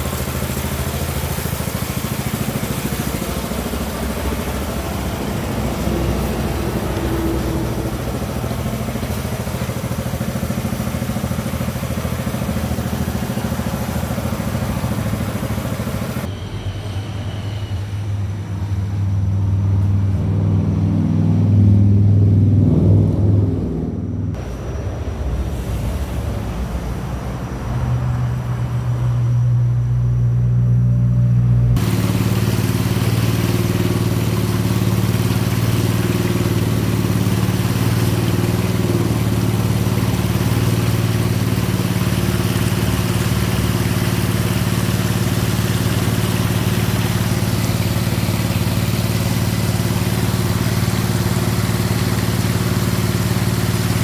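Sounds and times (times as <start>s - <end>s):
engine revving and running: 0.0s - 16.4s, 18.1s - 54.0s.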